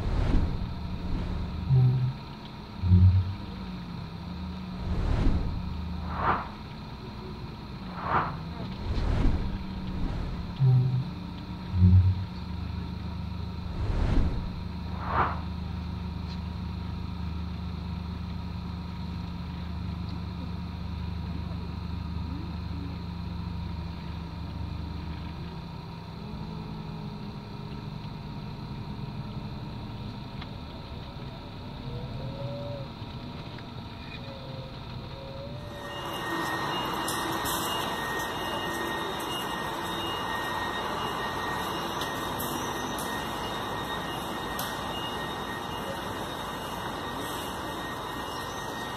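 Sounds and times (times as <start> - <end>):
bus diesel engine humming: 0.0 - 48.9.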